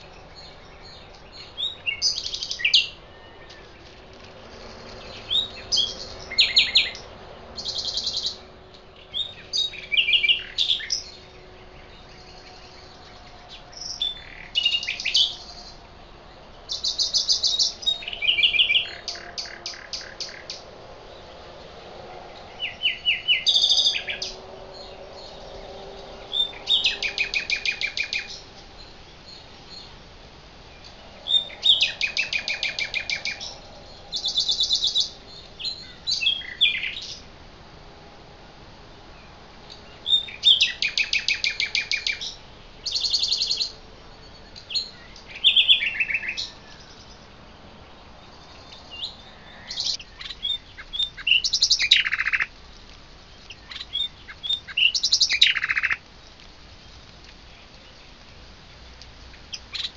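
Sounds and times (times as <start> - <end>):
songbirds singing trills: 0.0 - 37.4, 38.8 - 59.9.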